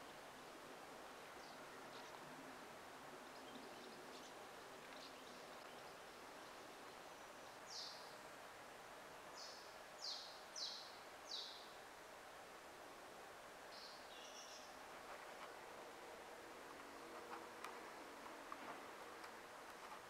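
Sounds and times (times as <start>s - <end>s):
faint outdoor ambience: 0.0s - 20.0s.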